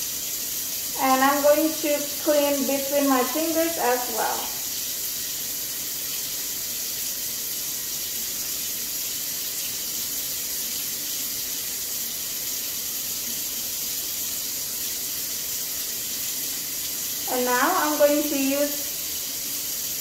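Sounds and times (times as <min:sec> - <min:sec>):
faucet running into a metal sink: 0:00.0 - 0:20.0.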